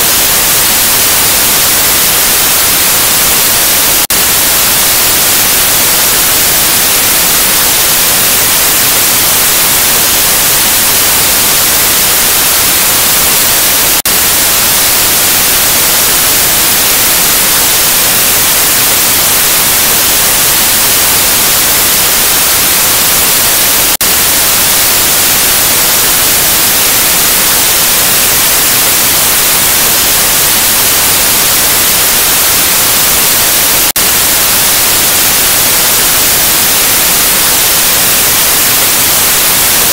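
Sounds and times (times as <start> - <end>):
tv static hiss: 0.0 - 39.9.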